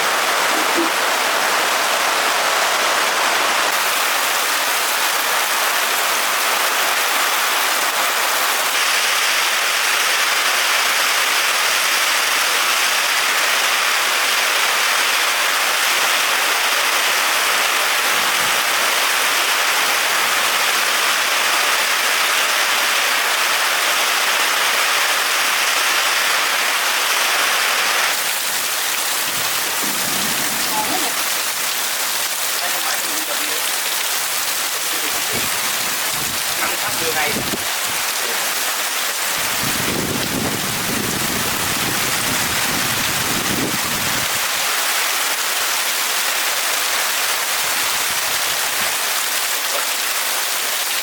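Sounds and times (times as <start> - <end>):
steady rain hiss: 0.0 - 51.0.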